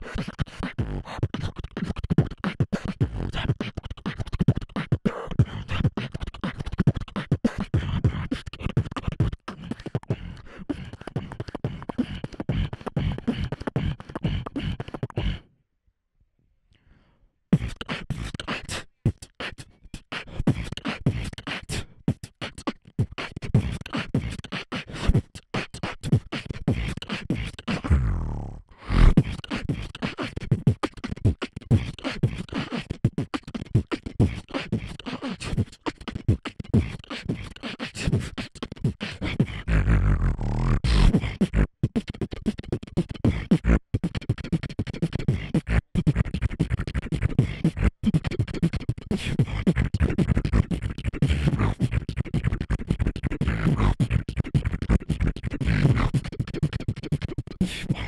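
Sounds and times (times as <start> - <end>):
beatboxing into microphone: 0.0 - 15.5, 17.5 - 58.0.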